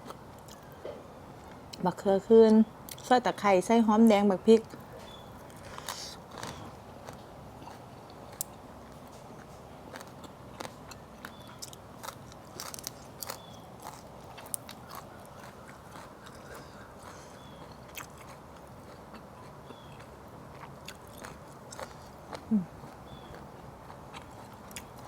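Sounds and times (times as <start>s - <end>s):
person chewing crunchy food: 4.7s - 25.0s.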